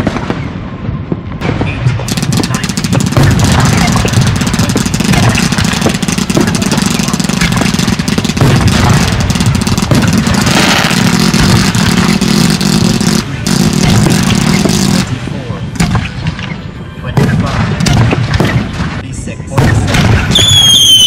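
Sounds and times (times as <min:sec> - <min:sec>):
fireworks crackling and popping: 0:00.0 - 0:15.2, 0:17.2 - 0:21.0
rushing rumble of fireworks: 0:00.0 - 0:21.0.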